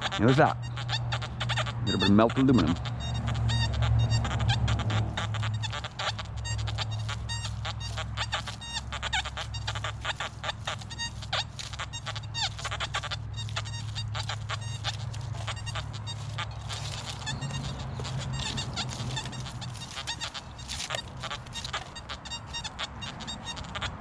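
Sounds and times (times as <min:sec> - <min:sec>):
metal detector beeps: 0:00.0 - 0:23.8
steady low hum: 0:00.0 - 0:24.0.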